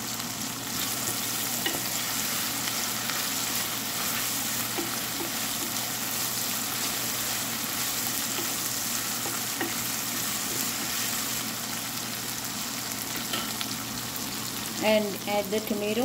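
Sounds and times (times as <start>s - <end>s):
onions sizzling in hot fat: 0.0s - 16.0s.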